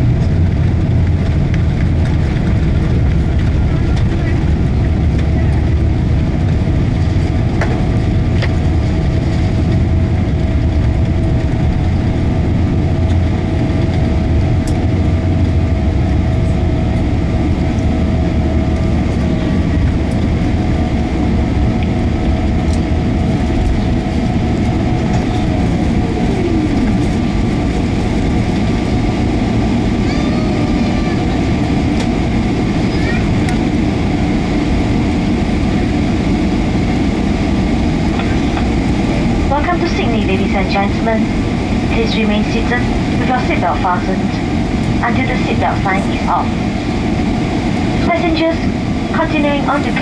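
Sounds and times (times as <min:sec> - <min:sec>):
airplane cabin rumble: 0:00.0 - 0:50.0
faint whine: 0:00.0 - 0:50.0.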